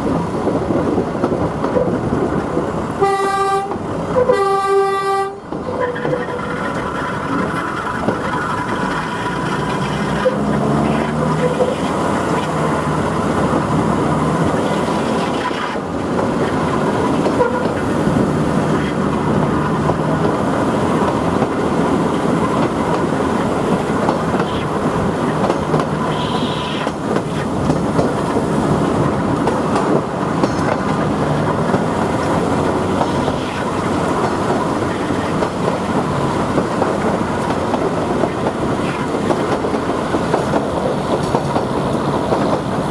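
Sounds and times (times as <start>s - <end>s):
wheels rumbling on rails: 0.0s - 42.9s.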